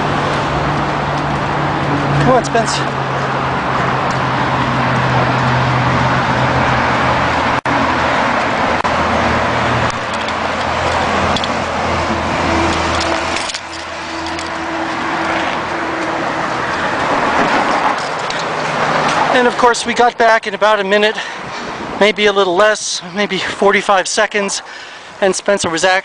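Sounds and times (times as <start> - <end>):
highway traffic: 0.0 - 26.0.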